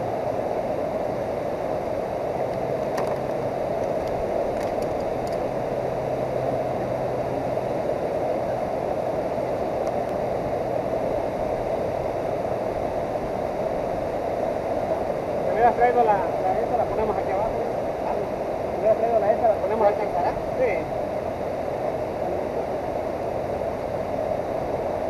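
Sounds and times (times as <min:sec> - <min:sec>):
fast river rushing: 0:00.0 - 0:25.0.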